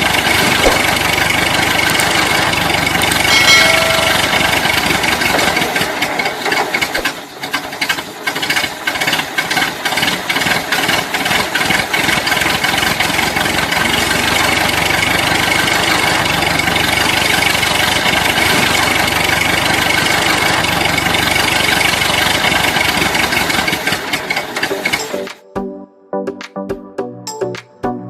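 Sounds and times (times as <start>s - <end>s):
small motor rattling: 0.0s - 25.3s.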